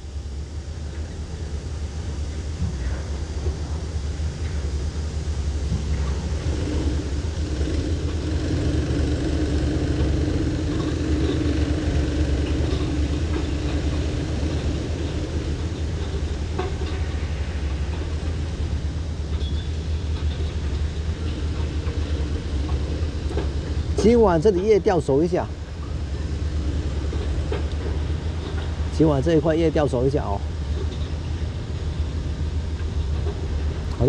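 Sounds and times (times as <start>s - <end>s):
droning hum: 0.0s - 34.0s
low mechanical rumble: 0.0s - 34.0s.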